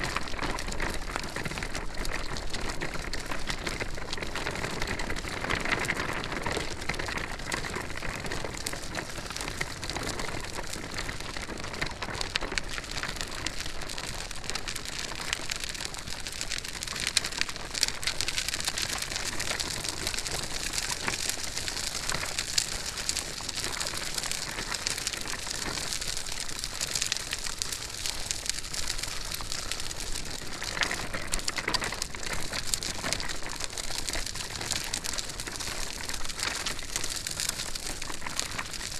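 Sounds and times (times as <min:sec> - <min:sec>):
stroller wheels rolling: 0:00.0 - 0:38.9.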